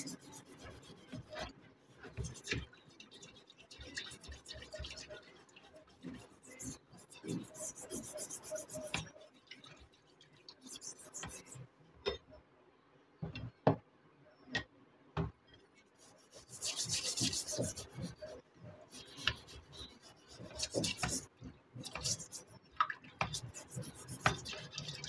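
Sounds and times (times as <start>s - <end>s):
wire brush scrubbing wet iron: 0.0s - 11.6s, 16.0s - 25.0s.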